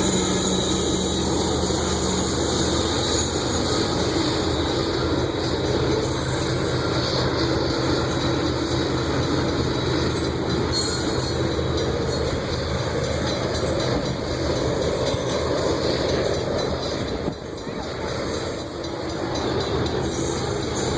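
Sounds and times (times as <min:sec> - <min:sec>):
freight train rumbling past: 0:00.0 - 0:20.9.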